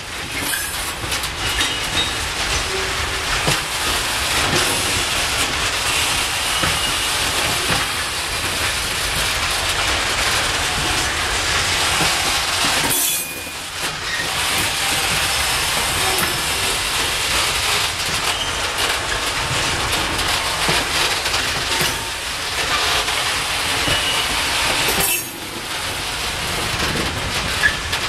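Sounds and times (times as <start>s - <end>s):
low rumble of rolling wagons: 0.0s - 28.0s
wagon wheels clicking over rail joints: 0.0s - 28.0s.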